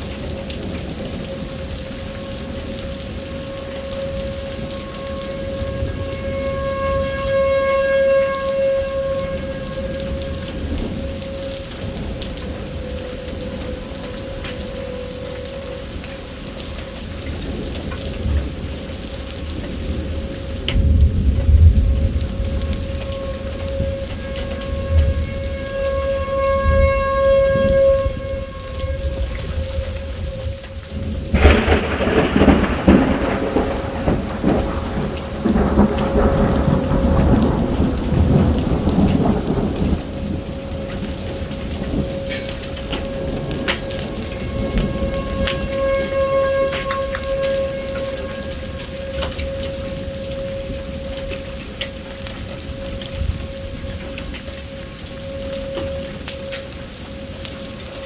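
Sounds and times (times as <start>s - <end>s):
heavy rain pattering: 0.0s - 58.0s
thunder rumble: 0.0s - 58.0s.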